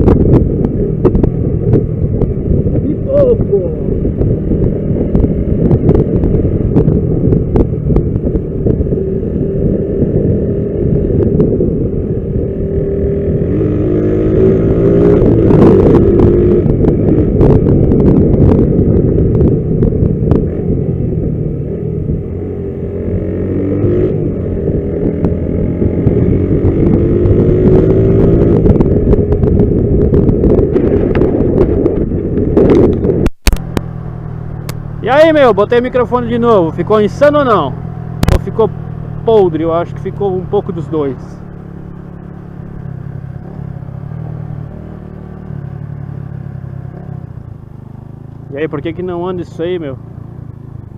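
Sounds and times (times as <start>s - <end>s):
motorcycle engine accelerating: 0.0s - 50.9s
wind noise: 0.0s - 50.9s.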